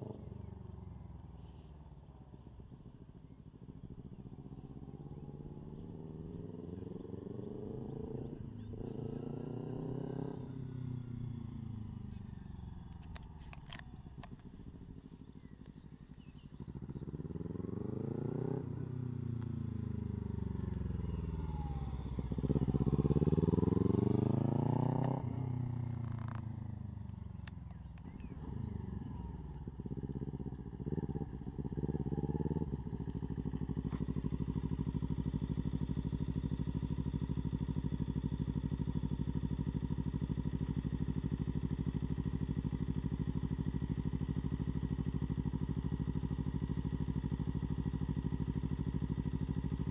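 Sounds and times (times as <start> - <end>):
motorcycle engine idling: 0.0 - 49.9
motorcycle engine revving: 0.0 - 49.9.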